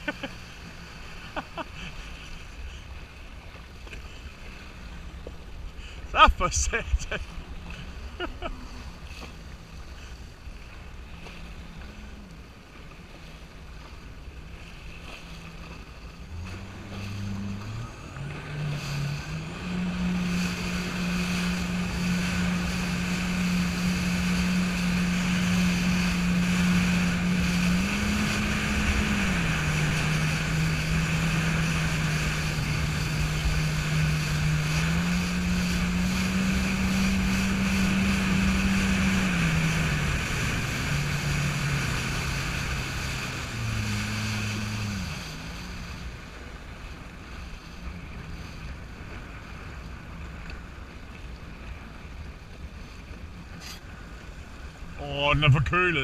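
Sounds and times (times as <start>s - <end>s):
jet ski engine running: 0.0s - 56.0s
water rushing: 0.0s - 56.0s.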